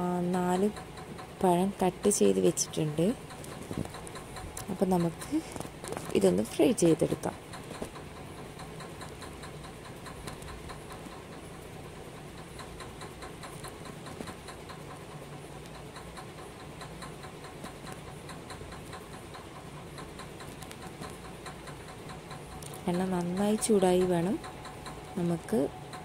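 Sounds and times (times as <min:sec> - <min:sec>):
low steady hum: 0:00.0 - 0:26.0
rapid even ticking: 0:00.0 - 0:26.0.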